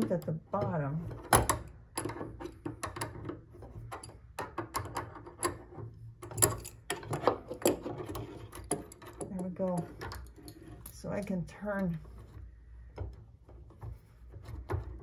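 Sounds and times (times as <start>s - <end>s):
metal tools tapping on bolt: 0.0s - 12.0s.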